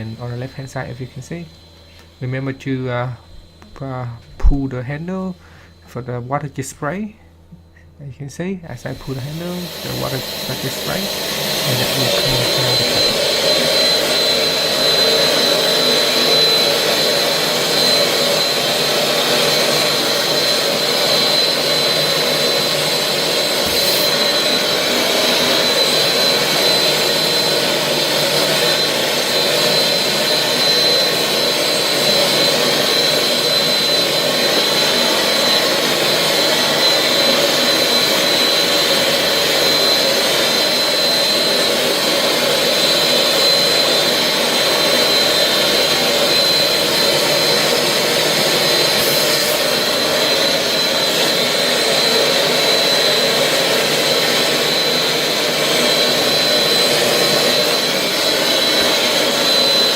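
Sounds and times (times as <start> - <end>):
carpet cleaner rushing noise: 0.0 - 7.1, 8.8 - 59.9
high whine: 0.0 - 59.9.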